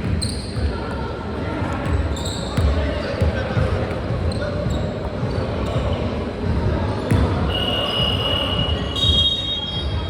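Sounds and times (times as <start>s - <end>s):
sneakers squeaking on floor: 0.0s - 1.0s, 1.7s - 10.0s.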